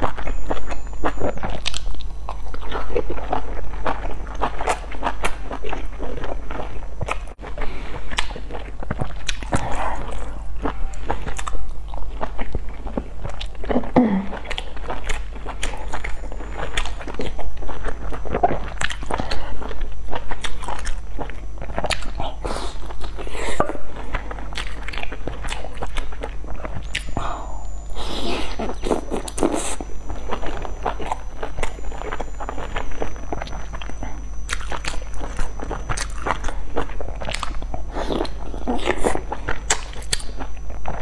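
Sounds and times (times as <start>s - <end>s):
person chewing and biting buns: 0.0s - 13.7s, 14.4s - 41.0s
steady low hum: 0.0s - 41.0s.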